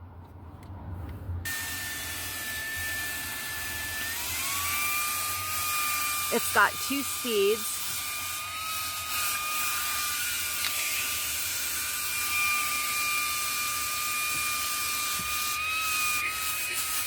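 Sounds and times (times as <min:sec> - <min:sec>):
handheld vacuum running: 0:01.5 - 0:17.0.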